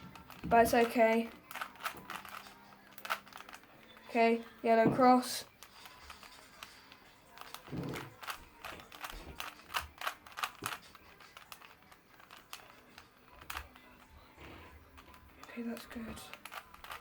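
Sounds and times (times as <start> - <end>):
puzzle cube clicking: 0.1 - 4.0, 5.6 - 14.1, 15.0 - 17.0.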